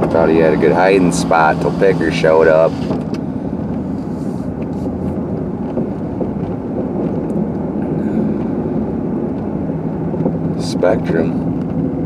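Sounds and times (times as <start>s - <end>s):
car interior engine and tyre rumble: 0.0s - 12.0s.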